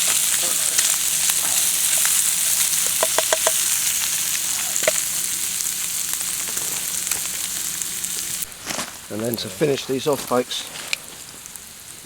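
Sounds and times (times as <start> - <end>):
scallops sizzling in a frying pan: 0.0 - 12.0.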